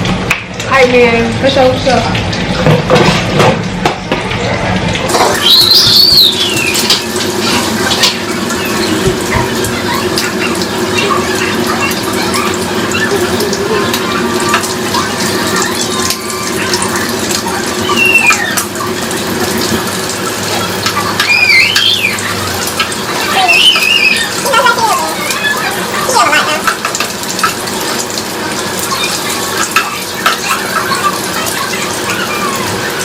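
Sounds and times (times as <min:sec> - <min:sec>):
tap water running into sink: 0:00.0 - 0:33.0.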